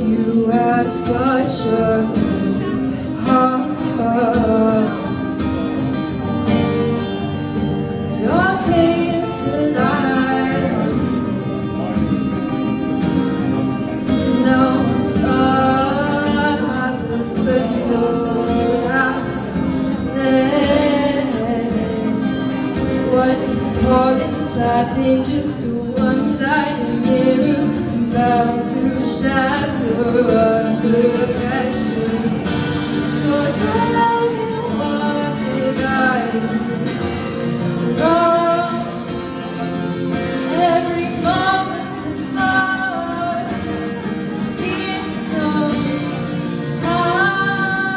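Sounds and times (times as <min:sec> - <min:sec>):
woman singing: 0:00.0 - 0:05.8, 0:07.8 - 0:11.3, 0:14.0 - 0:47.9
acoustic guitar: 0:00.0 - 0:47.9.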